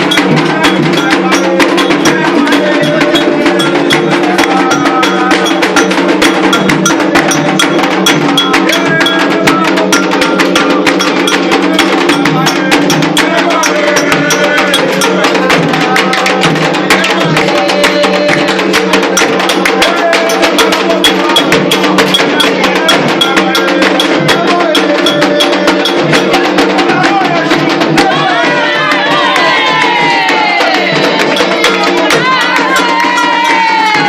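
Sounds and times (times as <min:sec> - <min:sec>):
hand drums and percussion: 0:00.0 - 0:34.0
people chanting: 0:00.0 - 0:34.0.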